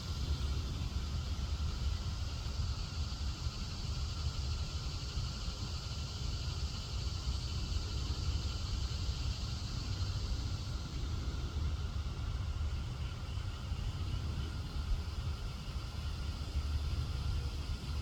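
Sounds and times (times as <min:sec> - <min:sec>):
crickets droning: 0:00.0 - 0:18.0.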